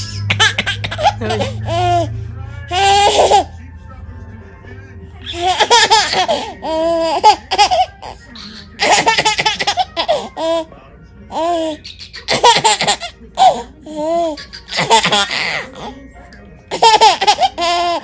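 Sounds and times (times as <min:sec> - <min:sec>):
baby laughing: 0:00.0 - 0:03.6, 0:05.2 - 0:10.7, 0:11.3 - 0:16.0, 0:16.7 - 0:18.0.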